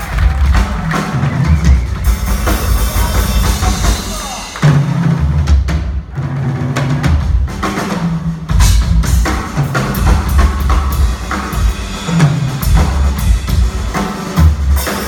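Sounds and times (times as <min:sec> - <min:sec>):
drum kit: 0:00.0 - 0:15.0
jazz-rock band playing: 0:00.0 - 0:15.0.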